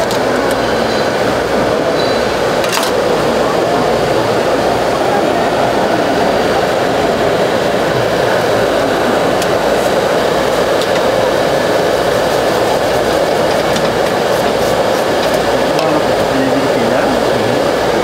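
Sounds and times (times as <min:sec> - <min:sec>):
busy street food stall din: 0:00.0 - 0:18.0.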